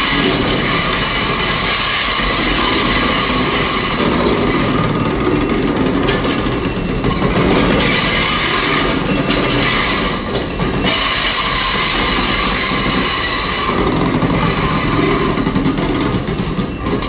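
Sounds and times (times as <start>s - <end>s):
train passing with loud hiss: 0.0s - 17.0s
wheels and brakes squealing: 0.0s - 17.0s.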